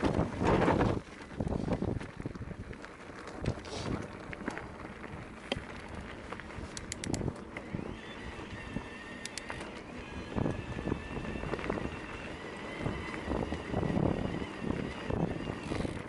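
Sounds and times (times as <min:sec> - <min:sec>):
tyres rumbling on stones: 0:00.0 - 0:16.0
wind noise on microphone: 0:00.0 - 0:16.0.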